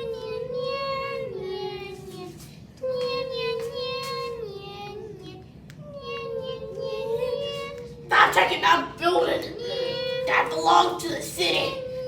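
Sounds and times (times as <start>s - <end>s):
child singing high notes: 0.0s - 12.0s.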